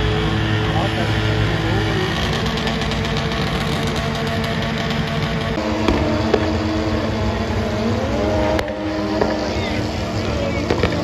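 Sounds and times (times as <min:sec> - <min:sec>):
car engine running loud: 0:00.0 - 0:11.0.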